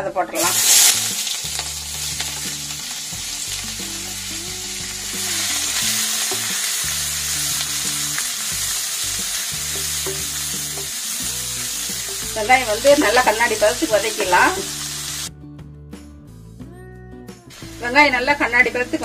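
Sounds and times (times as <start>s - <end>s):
onions sizzling in oil: 0.4s - 15.3s, 17.5s - 19.0s.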